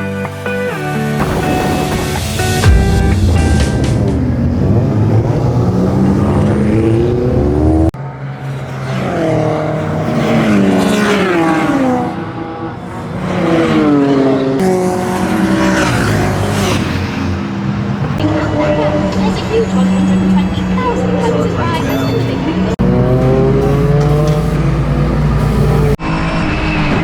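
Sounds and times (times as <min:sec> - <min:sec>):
race car engines revving: 0:00.0 - 0:26.9.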